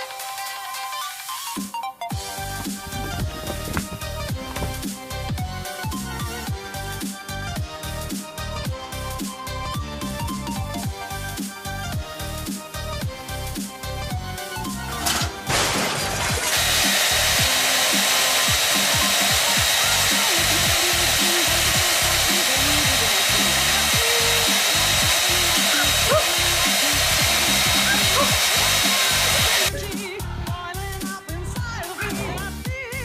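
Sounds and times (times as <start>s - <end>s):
background music with beat: 0.0s - 15.5s, 16.3s - 33.0s.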